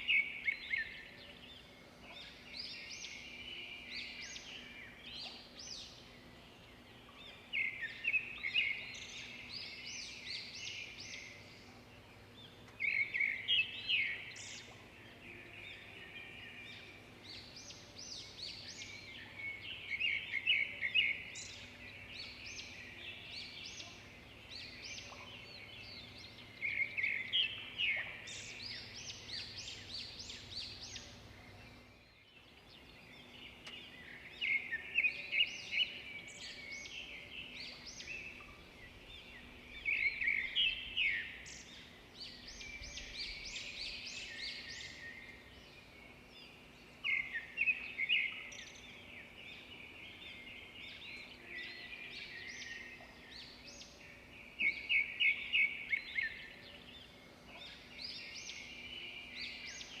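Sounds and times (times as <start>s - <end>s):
bird song of rapid repeated notes: 0.0s - 60.0s
birds chirping and singing: 0.0s - 60.0s.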